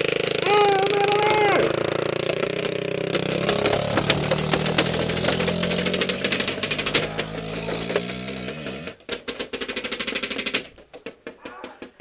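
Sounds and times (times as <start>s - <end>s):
paintball markers firing: 0.6s - 12.0s.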